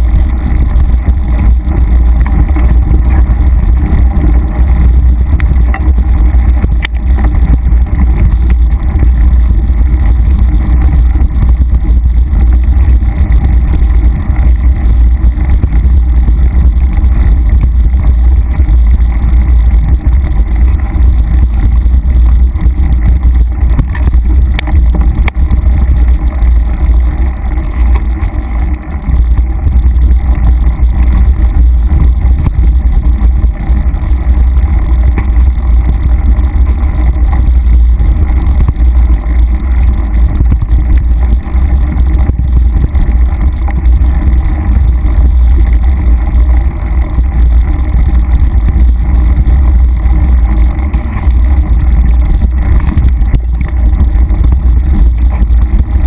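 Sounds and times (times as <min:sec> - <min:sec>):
mountain bike rumbling and rattling: 0:00.0 - 0:56.0
wind buffeting microphone: 0:00.0 - 0:56.0.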